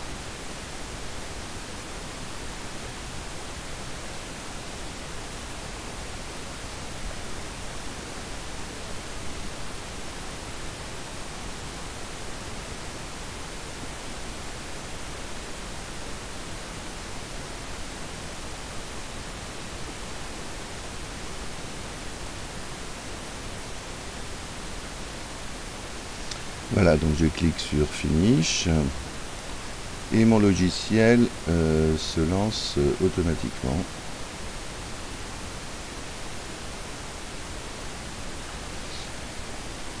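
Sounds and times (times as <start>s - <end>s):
steady microphone hiss: 0.0s - 40.0s.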